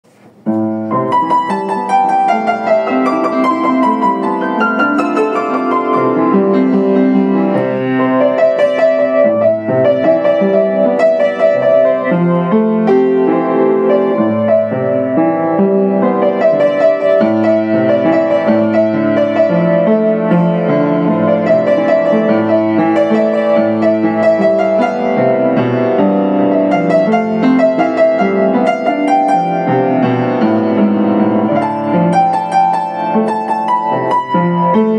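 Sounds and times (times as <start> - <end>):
solo upright piano melody: 0.0 - 34.9.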